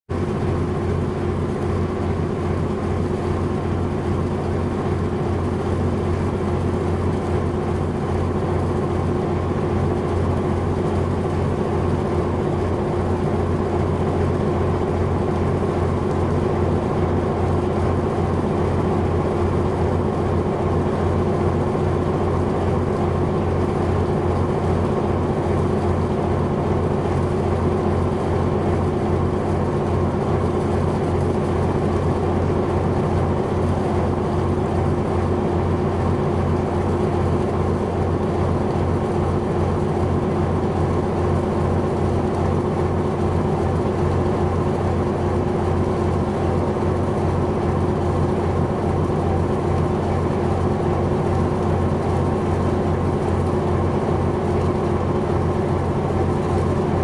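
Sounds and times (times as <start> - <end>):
large engine droning: 0.1 - 57.0.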